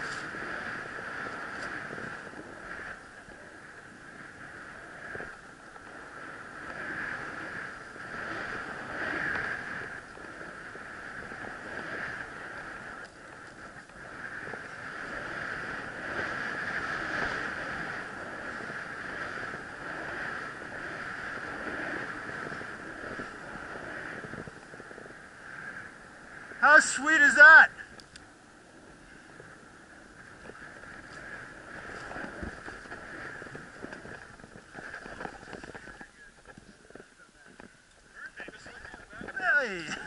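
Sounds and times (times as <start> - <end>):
skis hissing through snow: 0.0 - 27.6, 28.4 - 36.1
wind rushing over microphone: 0.0 - 40.0.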